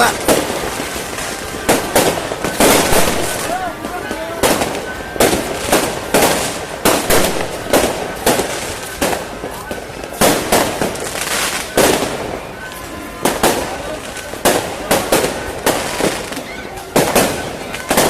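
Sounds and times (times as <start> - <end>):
crowd din: 0.0 - 18.0
fireworks bangs: 0.0 - 18.0.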